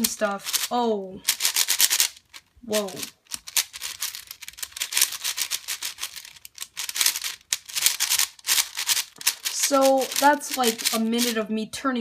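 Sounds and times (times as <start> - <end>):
speed cube clicking: 0.0 - 11.4.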